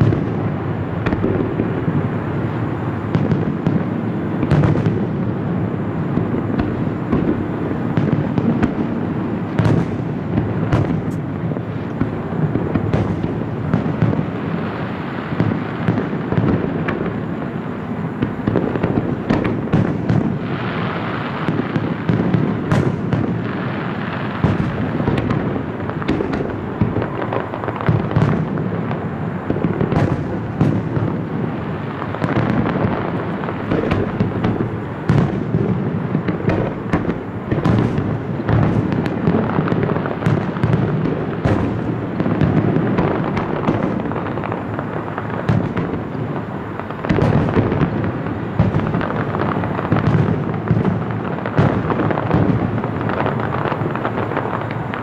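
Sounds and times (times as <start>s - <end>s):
firework bangs: 0.0s - 55.0s.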